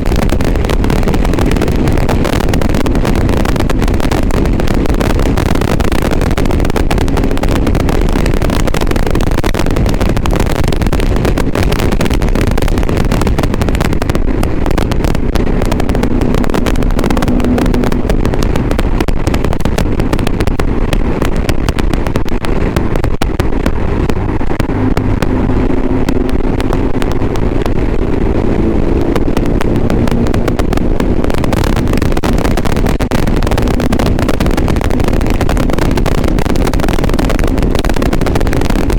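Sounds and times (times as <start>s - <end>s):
crackling distortion: 0.0s - 38.9s
motorcycle engine running: 0.0s - 38.9s
wind noise: 0.0s - 38.9s.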